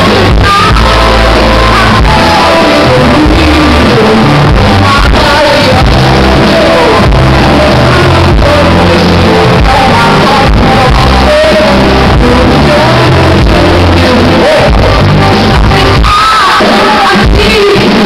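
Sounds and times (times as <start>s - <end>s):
live band music: 0.0s - 18.0s
woman singing: 0.0s - 18.0s.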